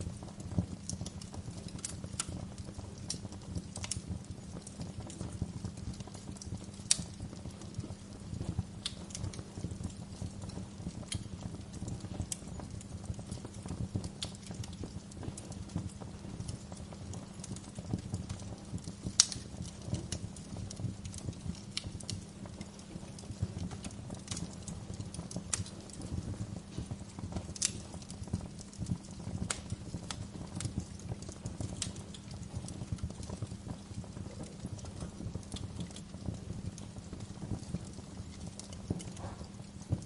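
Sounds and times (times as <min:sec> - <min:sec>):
low rumble of burning: 0:00.0 - 0:40.0
wood fire crackling and popping: 0:00.0 - 0:40.0.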